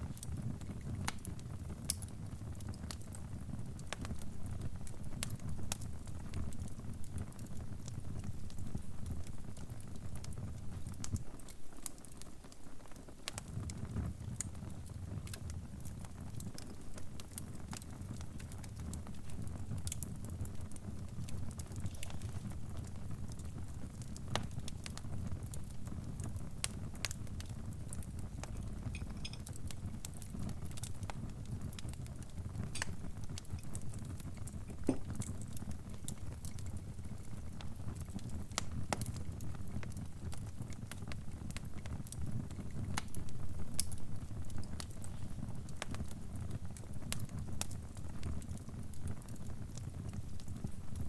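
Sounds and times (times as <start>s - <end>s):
crackling fire: 0.0s - 51.0s.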